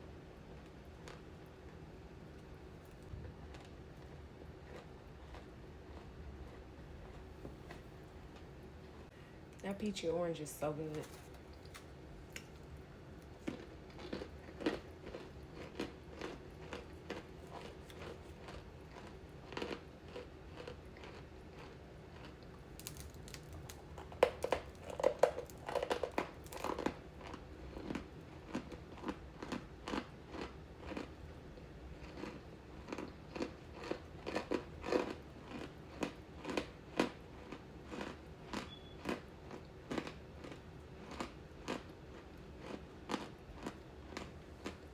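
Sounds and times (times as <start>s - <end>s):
chewing crunchy candy: 0.6s - 7.8s, 11.0s - 44.9s.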